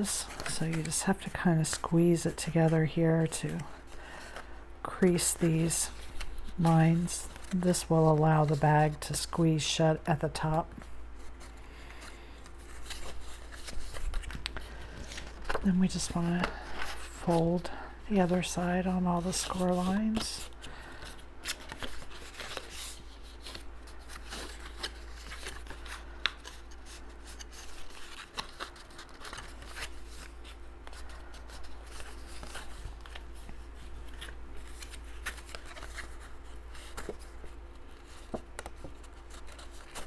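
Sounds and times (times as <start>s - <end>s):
cardstock crackling and rubbing: 0.0s - 9.2s, 10.2s - 40.0s.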